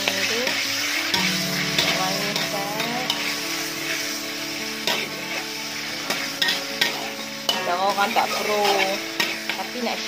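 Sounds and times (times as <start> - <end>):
food sizzling in hot oil: 0.0 - 10.0
spatula scraping wok: 0.0 - 10.0.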